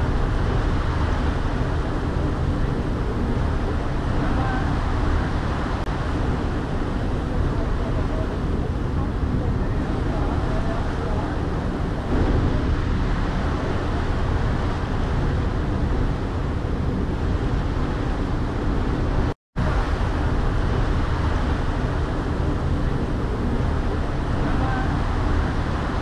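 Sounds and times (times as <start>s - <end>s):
ferry engine rumble: 0.0s - 26.0s
water churning in wake: 0.0s - 26.0s.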